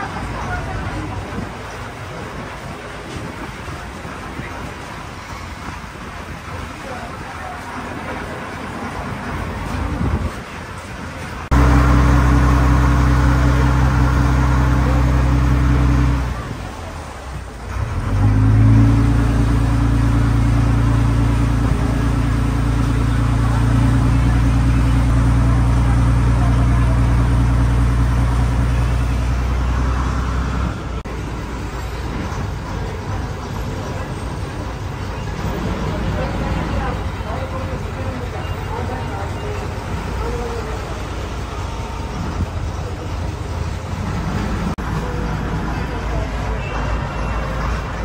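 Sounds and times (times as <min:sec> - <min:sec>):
ferry engine low drone: 0:06.1 - 0:46.6.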